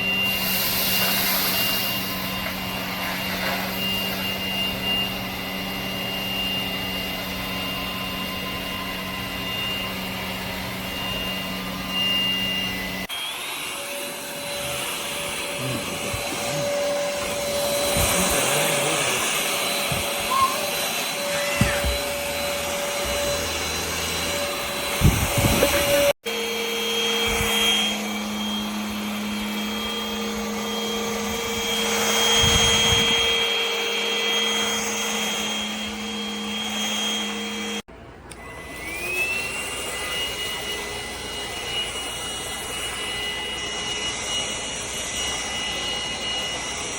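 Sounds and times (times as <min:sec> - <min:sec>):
stick vacuum motor whine: 0:00.0 - 0:46.9.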